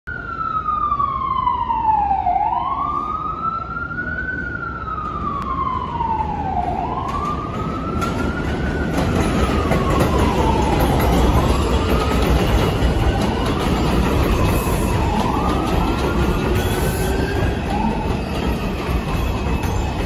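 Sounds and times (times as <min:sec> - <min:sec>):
siren wailing: 0:00.1 - 0:20.0
subway train rumbling: 0:00.1 - 0:20.0.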